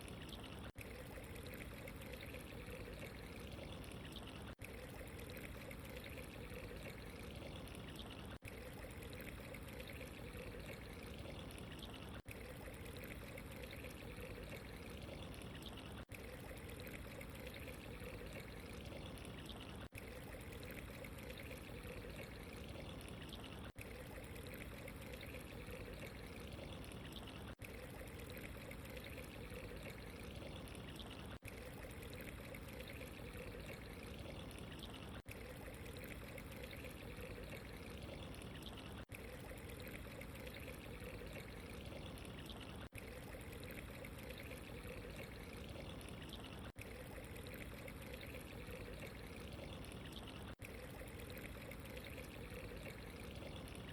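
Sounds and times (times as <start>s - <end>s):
running water trickling: 0.0s - 53.9s.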